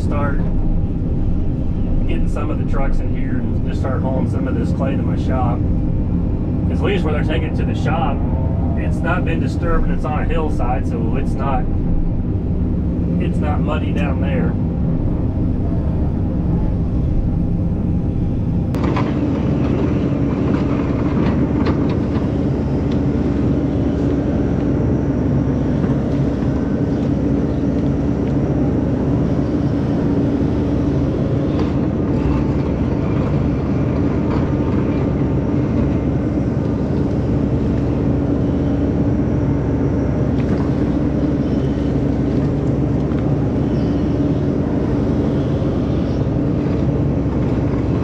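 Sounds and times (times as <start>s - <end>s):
excavator engine drone: 0.0s - 48.0s
steady higher hum: 0.0s - 48.0s.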